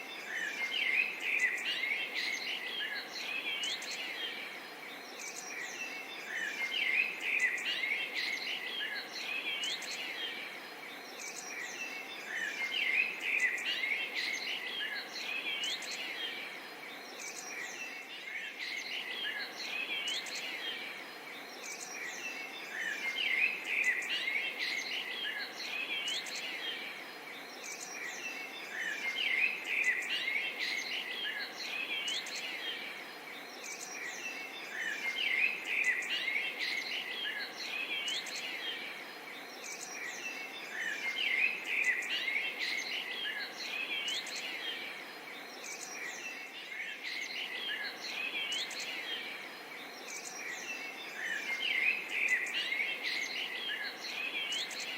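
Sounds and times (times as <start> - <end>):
birds chirping and calling: 0.0 - 54.9
steady background hiss: 0.0 - 54.9.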